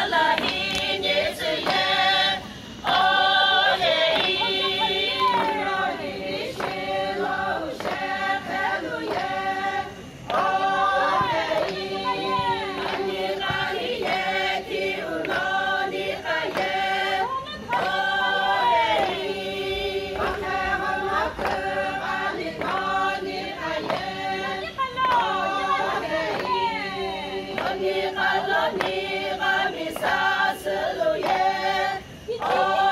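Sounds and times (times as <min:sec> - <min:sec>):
women singing unaccompanied: 0:00.0 - 0:32.9.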